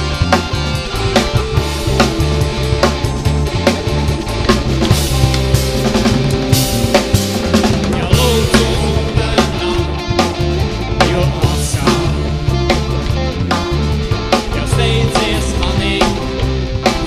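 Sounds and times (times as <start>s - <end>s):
bass line: 0.0s - 17.0s
drum kit beat: 0.0s - 17.0s.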